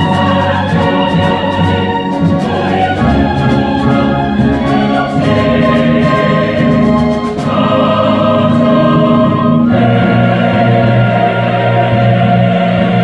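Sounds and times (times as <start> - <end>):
choir singing: 0.0 - 13.0
string orchestra: 0.0 - 13.0.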